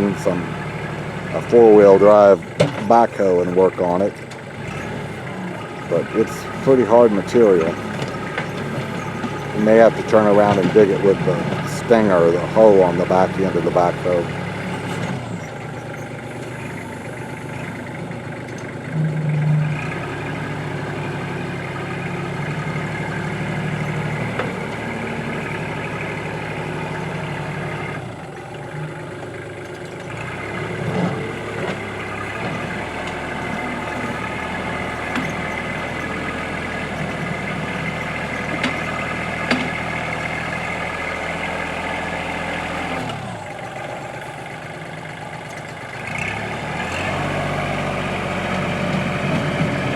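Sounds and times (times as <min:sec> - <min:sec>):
backhoe diesel engine under load: 0:00.0 - 0:49.9.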